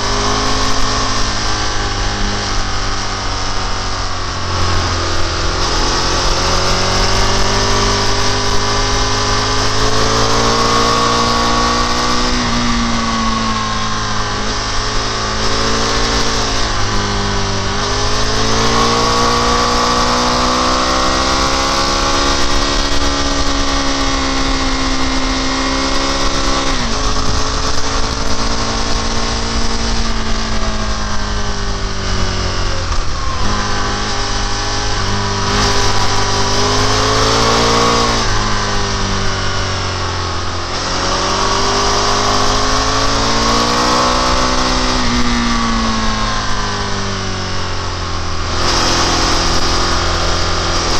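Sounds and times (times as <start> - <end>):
motorcycle engine accelerating: 0.0 - 50.9
wind noise: 0.0 - 50.9.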